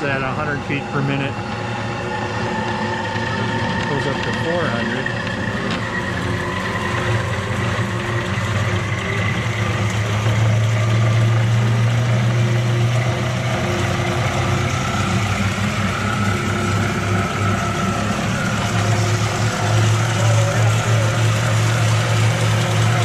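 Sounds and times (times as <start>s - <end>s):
band saw motor humming: 0.0s - 23.0s.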